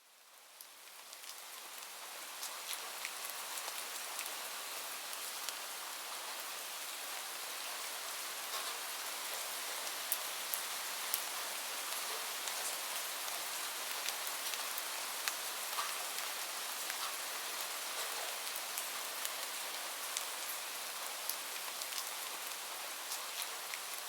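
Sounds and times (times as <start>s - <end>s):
rain hiss: 0.1s - 24.0s.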